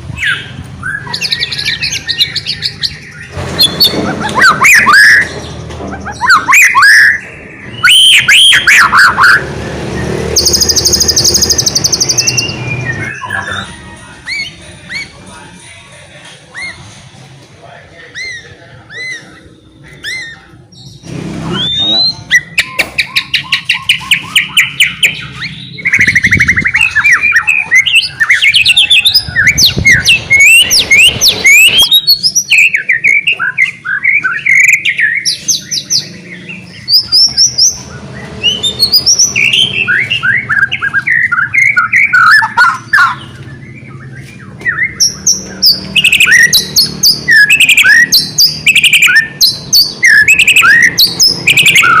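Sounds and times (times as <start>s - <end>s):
songbird singing trills and whistles: 0.1s - 9.4s, 10.2s - 15.2s, 18.1s - 52.0s.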